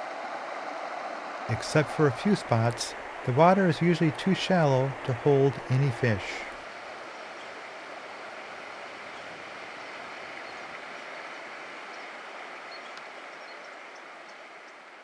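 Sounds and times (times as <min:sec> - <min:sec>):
river water running over gravel: 0:01.6 - 0:15.0.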